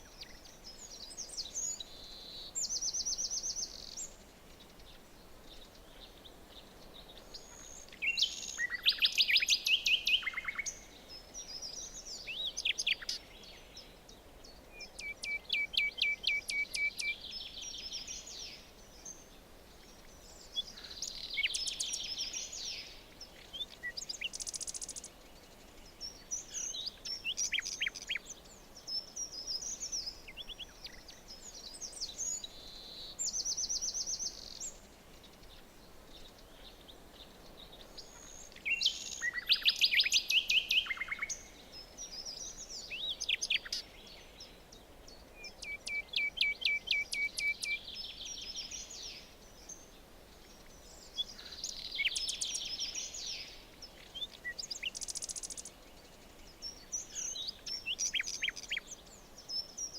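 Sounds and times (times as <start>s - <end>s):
faint steady hiss: 0.0s - 59.9s
songbirds chirping: 0.0s - 59.9s.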